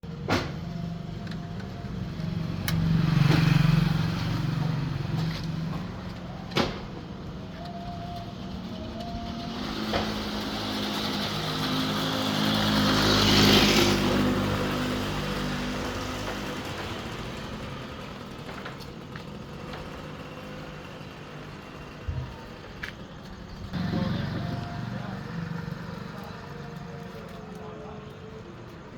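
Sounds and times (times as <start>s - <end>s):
vehicle engines running: 0.0s - 28.9s.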